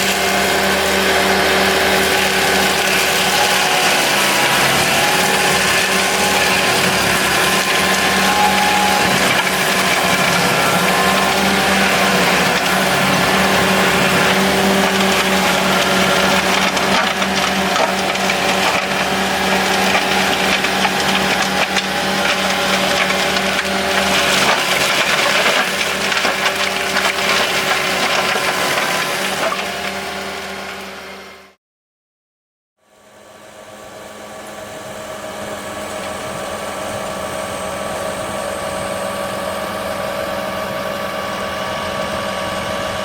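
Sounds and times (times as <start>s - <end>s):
mulcher shredding wood: 0.0s - 31.5s, 33.6s - 43.0s
machine engine hum: 0.0s - 31.6s, 32.9s - 43.0s.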